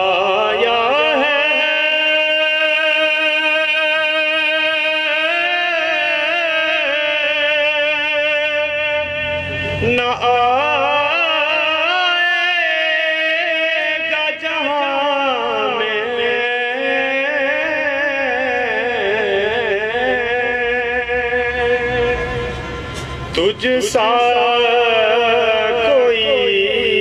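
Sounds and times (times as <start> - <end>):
man singing unaccompanied: 0.0 - 22.8, 23.4 - 27.0.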